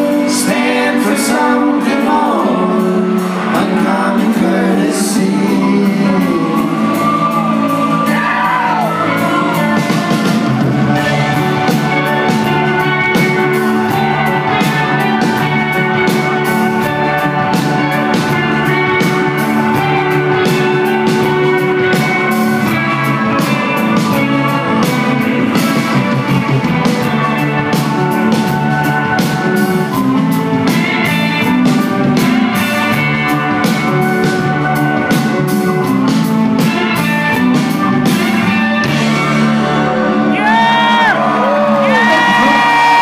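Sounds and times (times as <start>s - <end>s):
rock band playing live: 0.0s - 43.0s.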